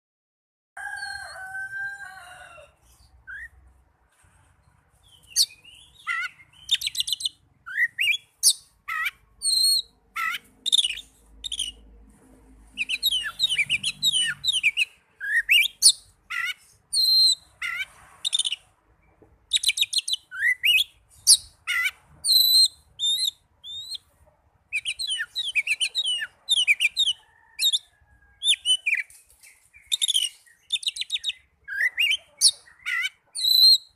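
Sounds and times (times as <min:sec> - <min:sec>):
songbird singing: 0:00.8 - 0:03.7, 0:04.7 - 0:11.9, 0:12.7 - 0:33.9.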